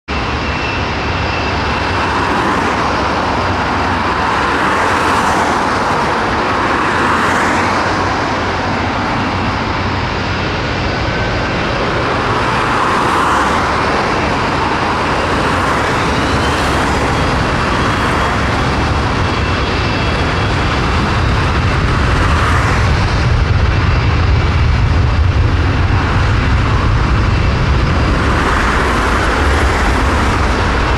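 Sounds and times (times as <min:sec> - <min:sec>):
road traffic passing: 0:00.1 - 0:30.9.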